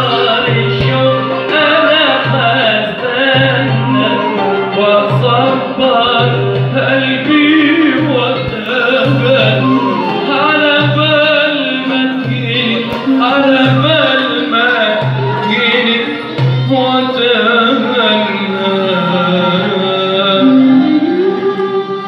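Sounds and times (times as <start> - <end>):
man singing ornamented phrases: 0.0 - 21.2.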